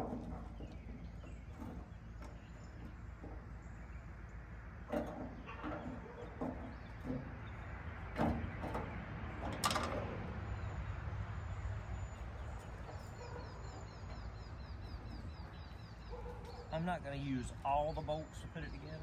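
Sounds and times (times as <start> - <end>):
low steady rumble: 0.0 - 18.7.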